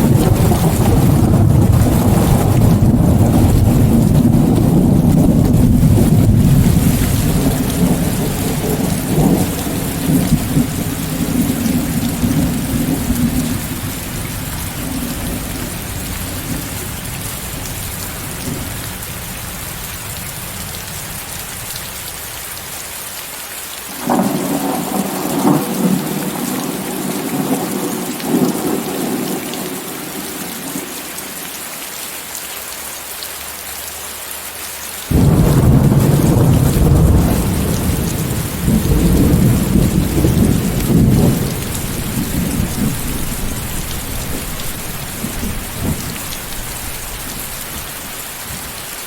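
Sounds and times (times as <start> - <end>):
thunder rumbling: 0.0 - 19.6, 24.0 - 31.3, 35.1 - 48.9
heavy rain hiss: 0.0 - 49.0.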